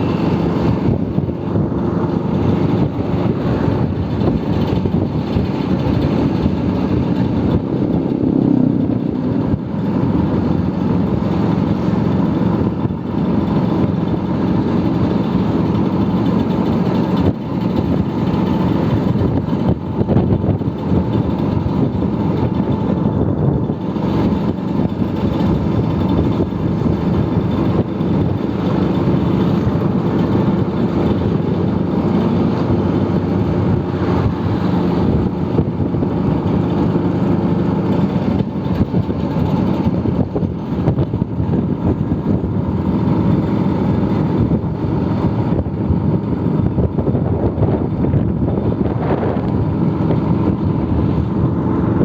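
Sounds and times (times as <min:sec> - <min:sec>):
scooter engine running: 0:00.0 - 0:52.0.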